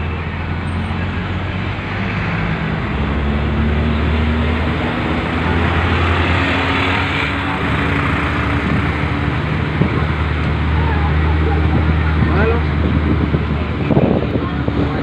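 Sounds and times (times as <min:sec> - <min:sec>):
road and wind noise: 0:00.0 - 0:15.0
vehicle engine hum: 0:00.0 - 0:15.0.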